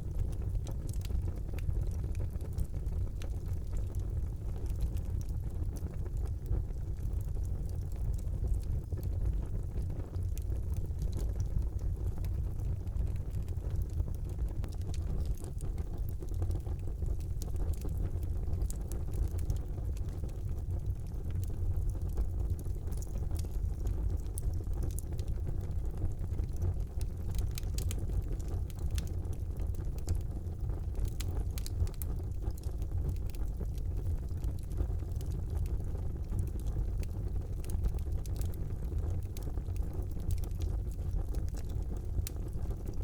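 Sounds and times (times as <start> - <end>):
fire crackling and popping: 0.0 - 43.0
fire flames rumbling: 0.0 - 43.0.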